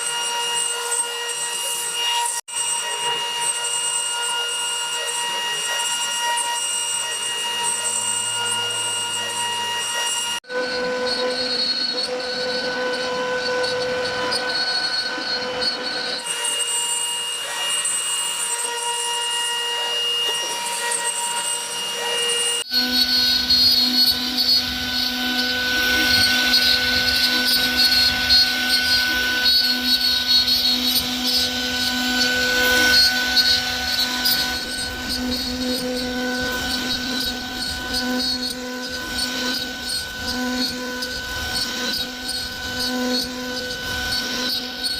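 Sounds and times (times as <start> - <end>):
router bit rasping wood: 0.0 - 44.9
router spindle whine: 0.0 - 44.9.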